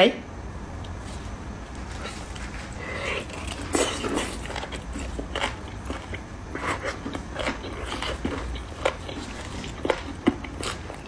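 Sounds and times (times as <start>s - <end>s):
soft chewing and smacking: 0.8s - 11.0s.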